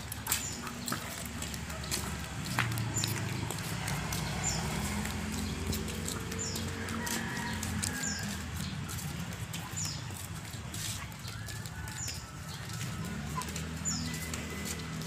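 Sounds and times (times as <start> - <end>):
footsteps on pavement: 0.0 - 15.0.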